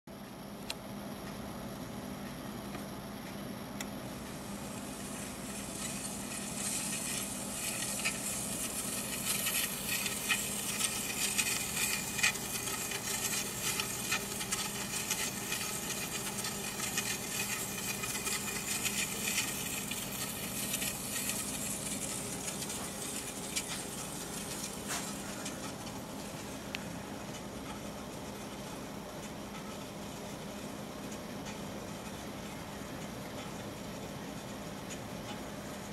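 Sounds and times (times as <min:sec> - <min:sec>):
low steady hum: 0:00.1 - 0:35.9
steel scraping spinning blade: 0:04.3 - 0:33.6.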